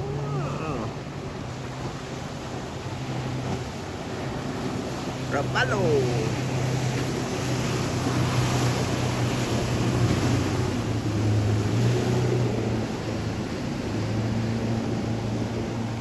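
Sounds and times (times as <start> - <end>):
motorboat engines humming: 0.0 - 16.0
surf washing: 0.0 - 16.0
wind: 0.0 - 16.0.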